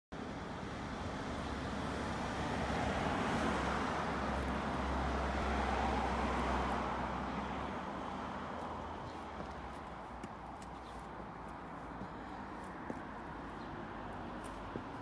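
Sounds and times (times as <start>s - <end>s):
vehicle passing: 1.2s - 15.0s.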